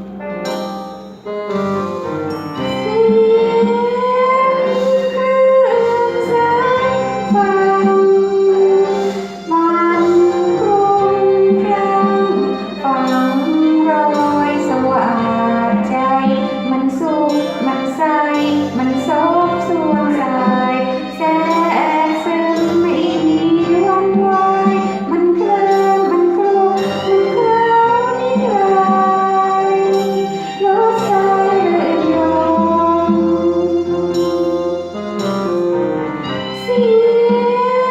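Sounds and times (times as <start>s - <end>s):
instrumental accompaniment: 0.0s - 37.9s
woman singing: 2.7s - 34.8s, 36.5s - 37.9s.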